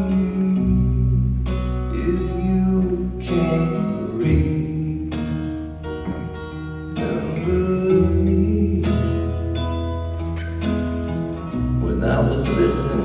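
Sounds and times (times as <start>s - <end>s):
bass line: 0.0s - 13.0s
strummed guitar chords: 0.0s - 13.0s.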